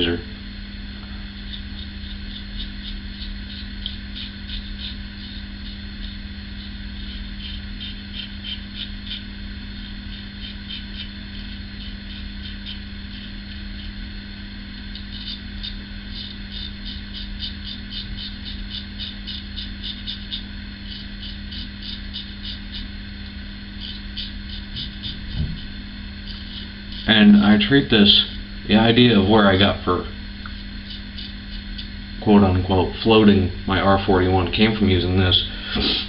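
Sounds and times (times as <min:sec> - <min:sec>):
razor scraping stubble: 0:01.2 - 0:36.0.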